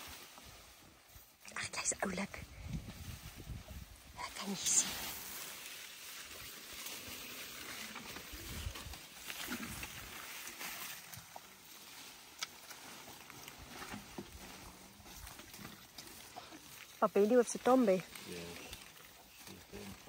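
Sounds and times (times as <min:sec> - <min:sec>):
leaves rustling and tearing: 0:00.0 - 0:01.4, 0:02.4 - 0:20.0.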